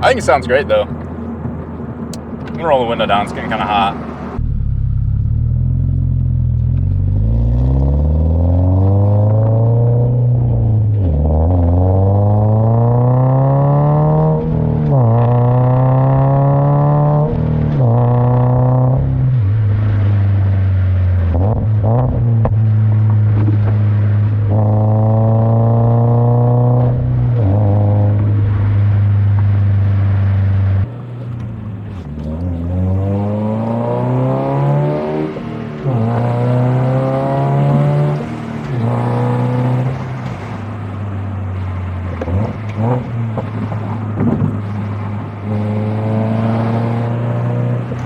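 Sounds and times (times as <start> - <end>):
car exhaust revving: 0.0 - 48.0.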